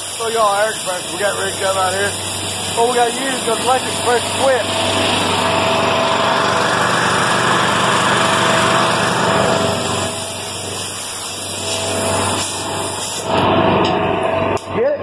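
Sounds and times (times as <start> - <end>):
small gasoline engine running: 0.6 - 12.9.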